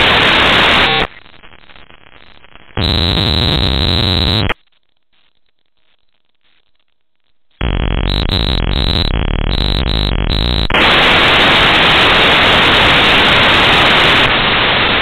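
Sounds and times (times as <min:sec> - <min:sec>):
telephone line static: 0:00.0 - 0:15.0.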